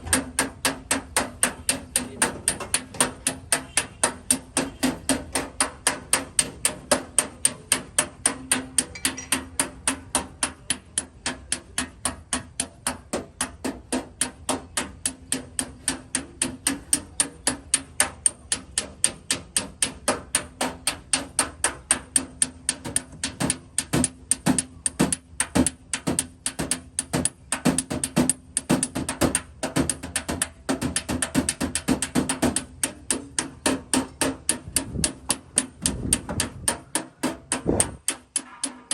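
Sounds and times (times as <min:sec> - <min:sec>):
hammer tapping on sheet metal: 0:00.0 - 0:38.9.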